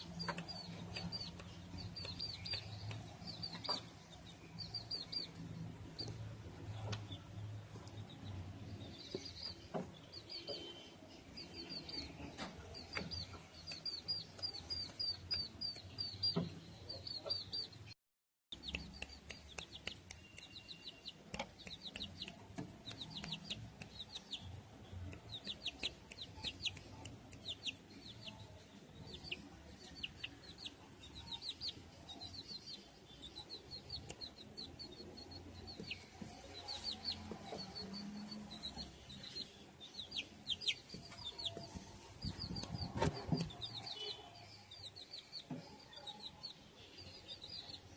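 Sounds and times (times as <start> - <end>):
chickens clucking and peeping: 0.0 - 17.9, 18.6 - 47.9.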